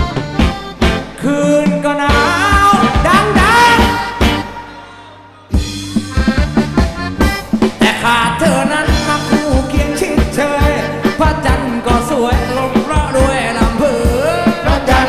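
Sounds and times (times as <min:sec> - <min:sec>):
steady drum beat: 0:00.0 - 0:04.8, 0:05.5 - 0:15.0
upbeat band music: 0:00.0 - 0:15.0.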